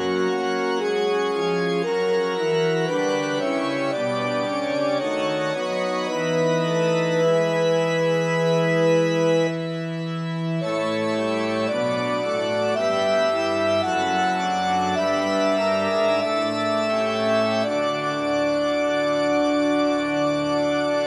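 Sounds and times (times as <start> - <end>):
organ chords: 0.0 - 21.0.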